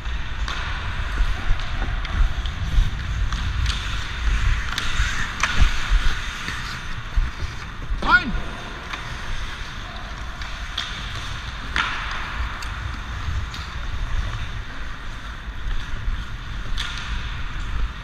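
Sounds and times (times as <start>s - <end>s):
skate blades scraping ice: 0.0s - 18.0s.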